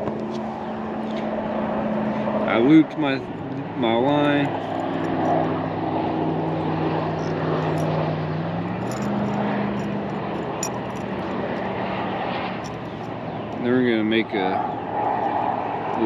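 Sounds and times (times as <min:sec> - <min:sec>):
engine drone: 0:00.0 - 0:16.0
rushing background noise: 0:00.0 - 0:16.0.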